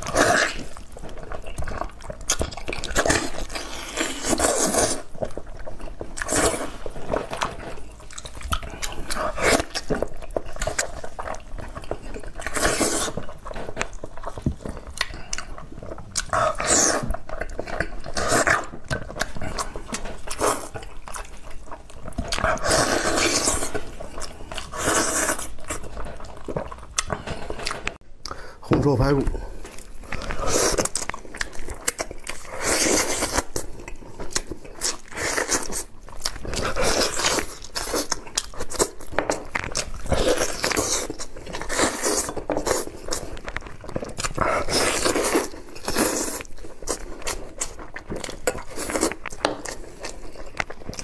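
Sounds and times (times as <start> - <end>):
person chewing wet food: 0.0 - 51.0.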